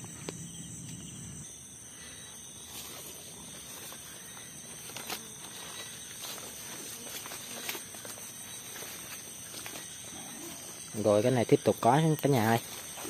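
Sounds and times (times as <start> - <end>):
crickets chirping: 0.0 - 13.0
rustling through vegetation: 2.4 - 13.0.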